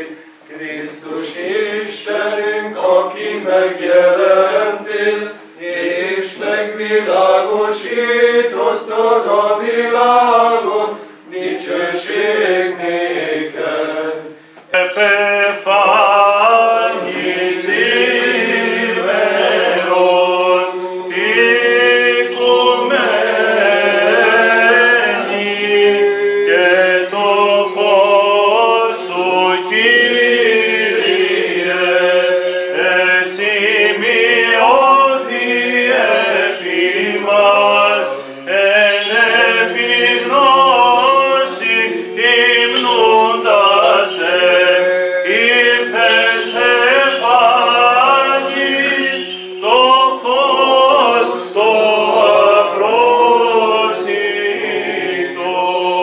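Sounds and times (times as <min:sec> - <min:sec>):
voices chanting over a drone: 0:00.0 - 0:56.0.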